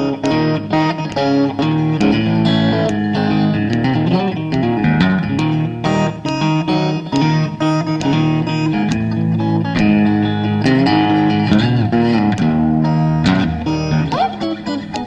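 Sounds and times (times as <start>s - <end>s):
plucked blues guitar: 0.0s - 15.0s.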